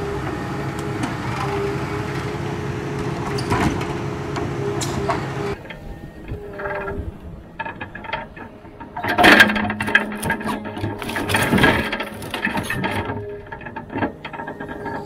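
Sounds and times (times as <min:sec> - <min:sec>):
hydraulic hum: 0:00.0 - 0:15.0.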